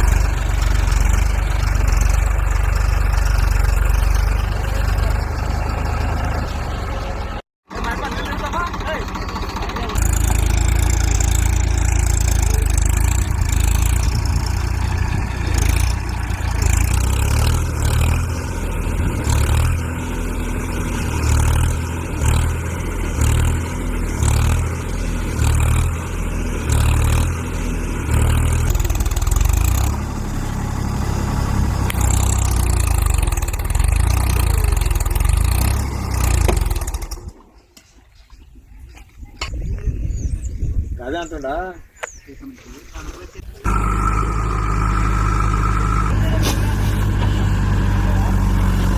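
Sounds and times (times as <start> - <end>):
tractor diesel engine revving: 0.0 - 37.4, 43.4 - 48.9.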